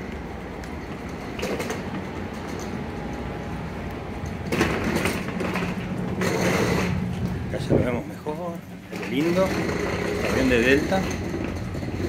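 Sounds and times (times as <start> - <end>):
steady low hum: 0.0 - 12.0
steady rumbling background noise: 0.0 - 12.0.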